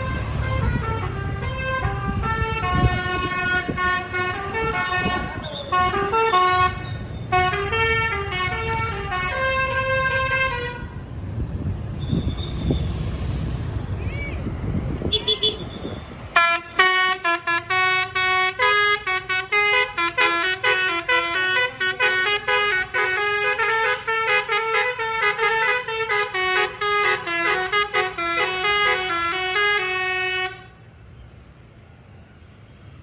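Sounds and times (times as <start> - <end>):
musical bus air horn tune: 0.0 - 11.0, 15.1 - 30.8.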